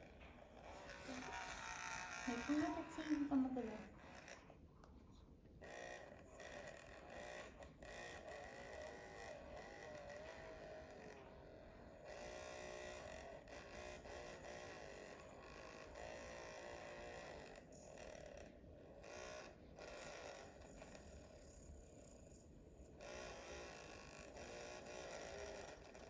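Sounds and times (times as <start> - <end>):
electric hair clippers buzzing: 0.0 - 4.5, 5.6 - 26.0.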